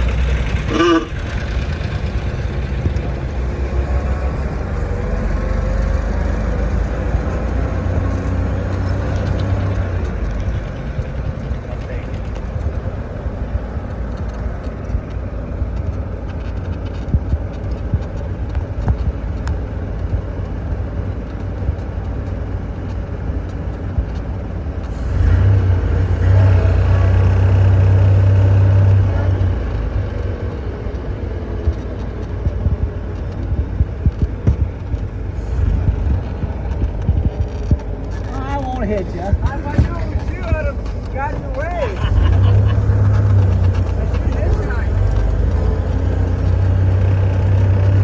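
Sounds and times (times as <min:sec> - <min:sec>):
vehicle engine rumbling: 0:00.0 - 0:48.0.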